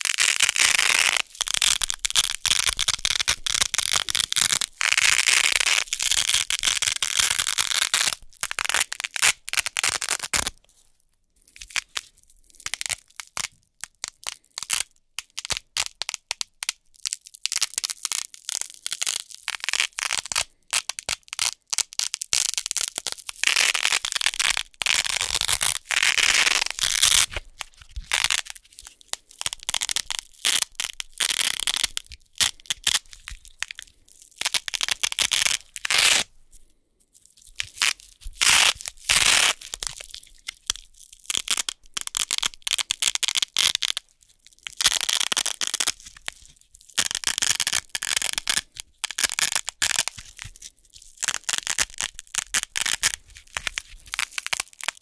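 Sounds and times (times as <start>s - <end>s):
velcro tape tearing apart: 0.0s - 10.6s, 11.6s - 36.3s, 37.3s - 55.0s.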